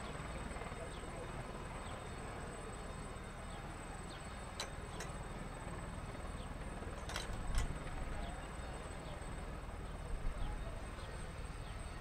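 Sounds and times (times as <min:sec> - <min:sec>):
helicopter rotor and turbine rumble: 0:00.0 - 0:12.0.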